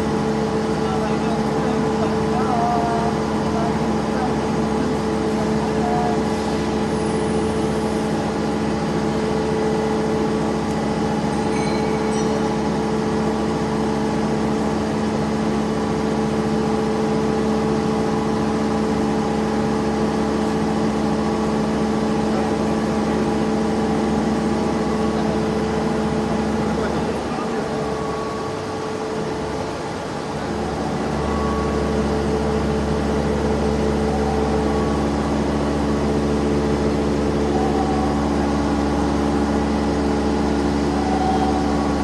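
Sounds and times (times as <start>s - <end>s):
lathe humming: 0.0s - 42.0s.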